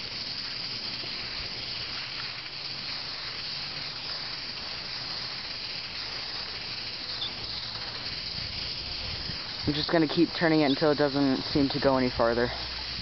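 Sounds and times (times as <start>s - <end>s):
sprinkler water spray hiss: 0.0s - 13.0s.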